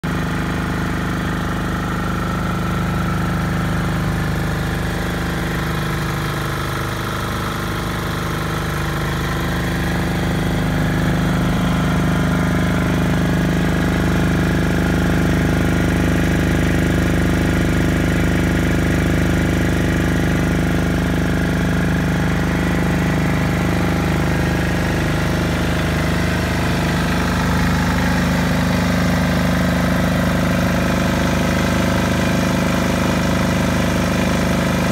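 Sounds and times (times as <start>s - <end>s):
diesel generator engine running: 0.0s - 34.9s.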